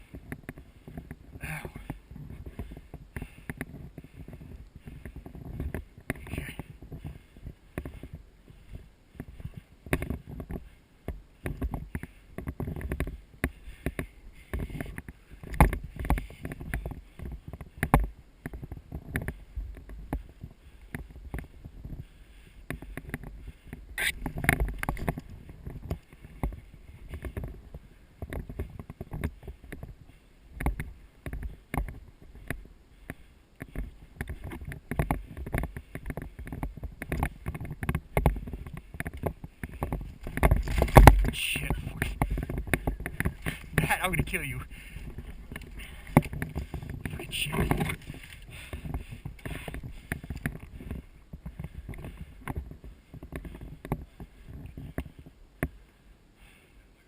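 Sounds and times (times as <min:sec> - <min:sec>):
gear rustling and thumps: 0:00.0 - 0:55.9.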